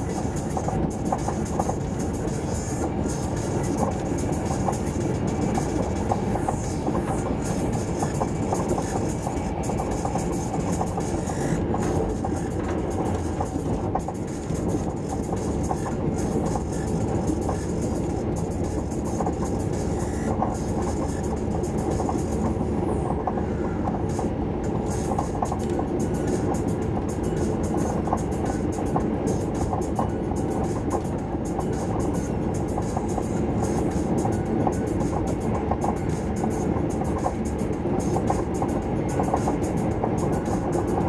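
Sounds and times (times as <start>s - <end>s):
train wheels on track: 0.0s - 41.0s.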